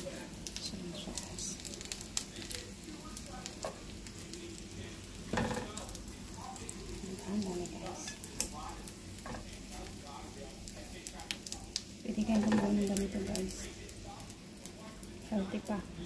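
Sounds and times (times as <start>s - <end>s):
oil sizzling in a frying pan: 0.0s - 16.0s.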